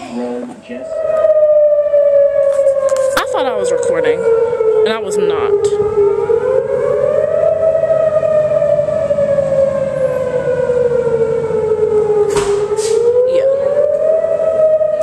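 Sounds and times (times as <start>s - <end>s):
tornado warning siren wailing: 0.2s - 15.0s.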